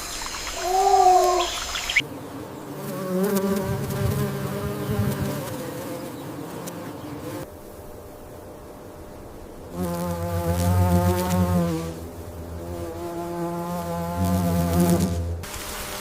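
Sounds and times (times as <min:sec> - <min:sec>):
insect wings buzzing: 0:00.0 - 0:16.0.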